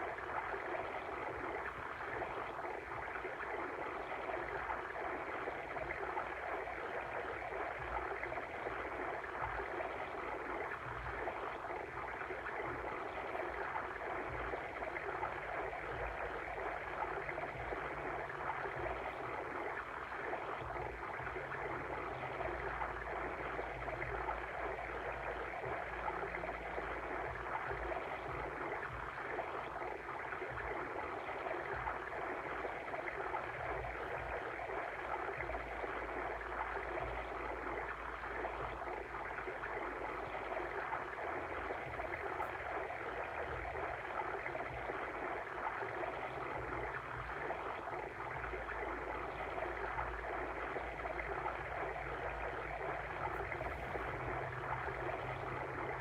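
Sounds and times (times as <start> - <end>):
stream flowing and babbling: 0.0 - 56.0.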